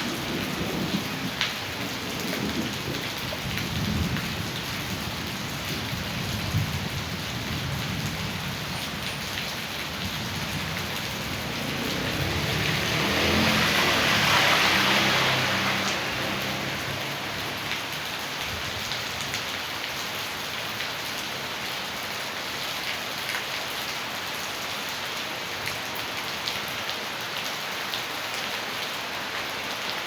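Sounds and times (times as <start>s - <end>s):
heavy rain: 0.0s - 30.0s
rushing runoff water: 0.0s - 30.0s.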